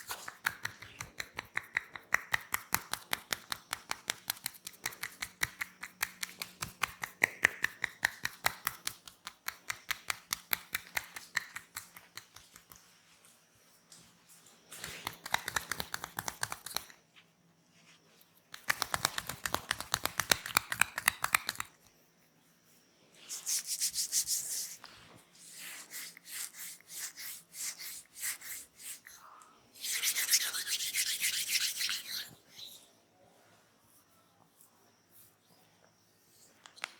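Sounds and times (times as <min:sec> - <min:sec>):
hands rubbing and tapping skin: 0:00.0 - 0:22.0, 0:23.3 - 0:29.2, 0:29.8 - 0:32.4, 0:36.6 - 0:36.9.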